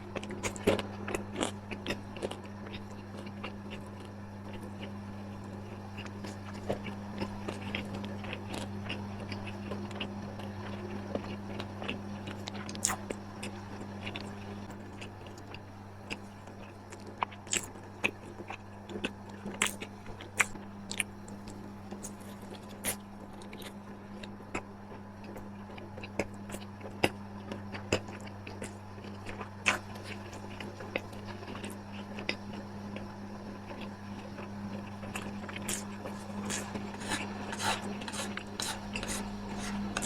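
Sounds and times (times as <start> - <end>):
person chewing crunchy food: 0.0 - 40.0
steady low hum: 0.0 - 40.0.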